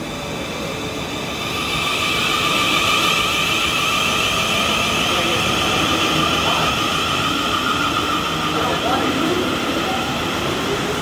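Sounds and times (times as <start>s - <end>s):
electric train whine: 0.0s - 11.0s.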